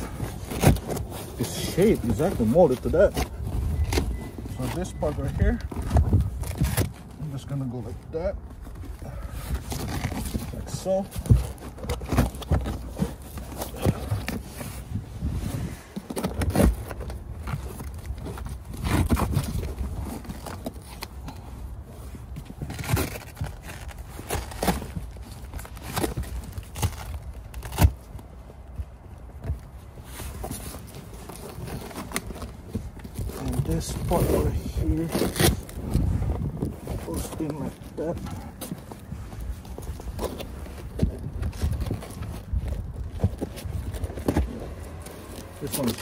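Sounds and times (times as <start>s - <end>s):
cargo liner scraping and rustling: 0.0s - 46.0s.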